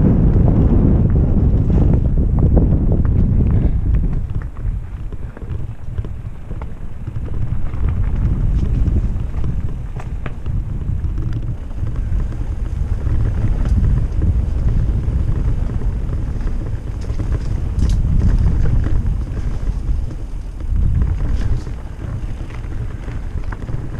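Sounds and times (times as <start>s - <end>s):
bike clicking and rattling: 0.0s - 23.9s
tyres rumbling on dirt: 0.0s - 23.9s
wind buffeting microphone: 0.0s - 23.9s.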